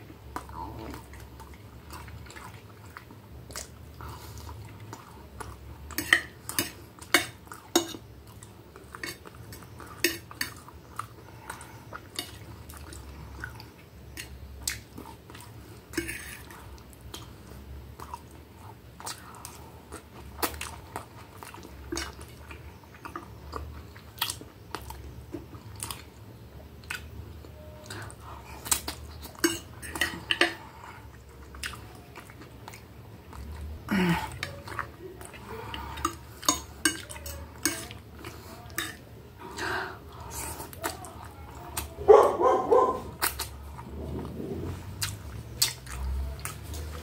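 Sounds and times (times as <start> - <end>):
close-up chewing: 0.0 - 47.0.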